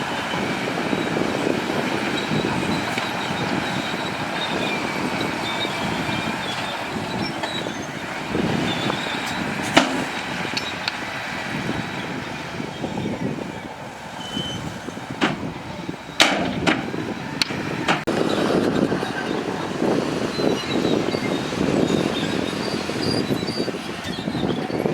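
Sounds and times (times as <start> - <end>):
metallic squeals: 0.0 - 17.3, 18.2 - 24.9
heavy machinery engine rumble: 0.0 - 24.9.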